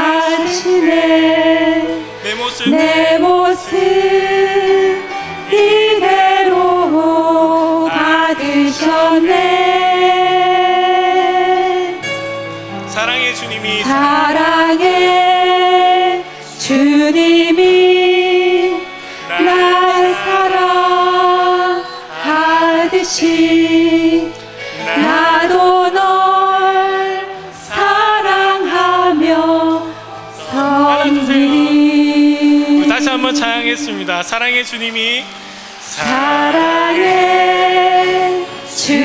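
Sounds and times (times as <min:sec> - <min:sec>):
group singing worship song: 0:00.0 - 0:12.5, 0:13.2 - 0:34.3, 0:35.4 - 0:39.0
low steady accompaniment: 0:00.0 - 0:39.0.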